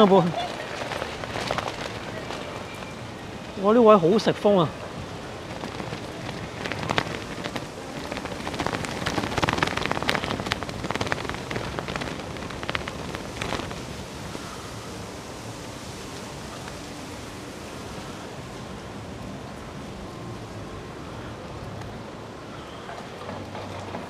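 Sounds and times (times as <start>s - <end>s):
rain lashing an umbrella: 0.0s - 24.0s.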